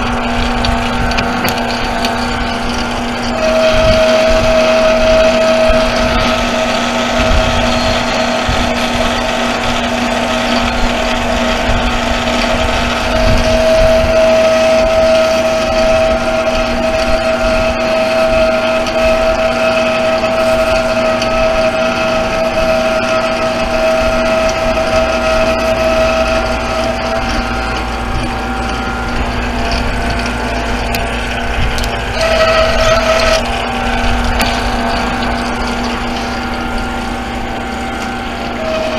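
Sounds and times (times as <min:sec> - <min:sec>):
metal lathe whining: 0:00.0 - 0:38.9.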